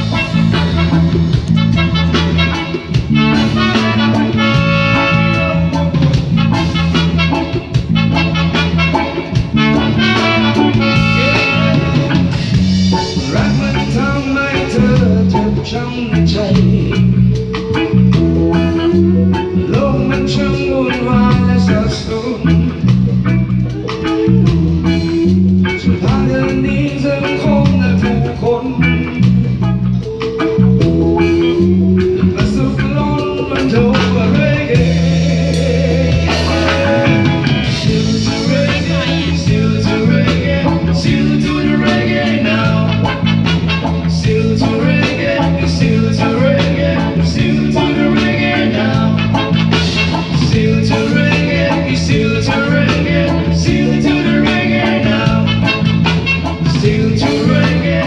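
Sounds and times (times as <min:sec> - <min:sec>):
reggae band playing: 0:00.0 - 0:58.0
person singing: 0:09.4 - 0:23.0, 0:23.7 - 0:58.0.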